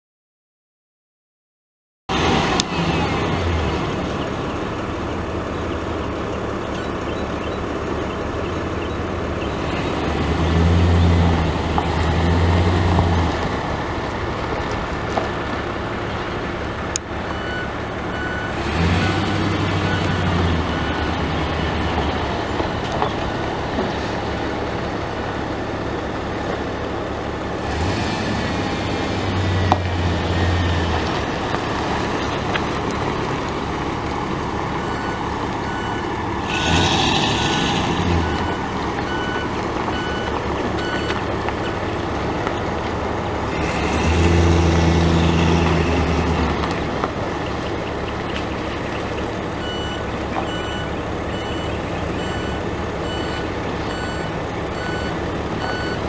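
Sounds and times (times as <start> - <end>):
truck engine idling: 2.2 - 56.0.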